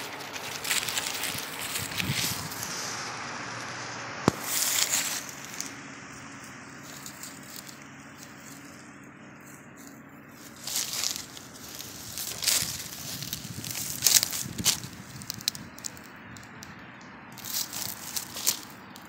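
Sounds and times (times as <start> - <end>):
dry leaves rustling under paws: 0.0 - 3.5, 4.3 - 19.0.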